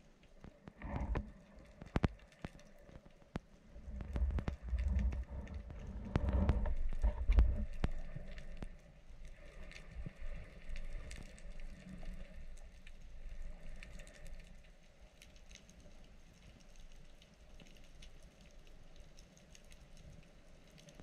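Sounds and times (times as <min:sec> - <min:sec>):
low rumble of water movement: 0:00.0 - 0:21.0.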